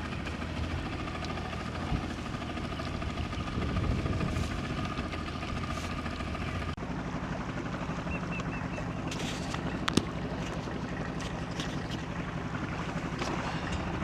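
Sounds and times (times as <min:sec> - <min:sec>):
boat motor running: 0:00.0 - 0:14.0.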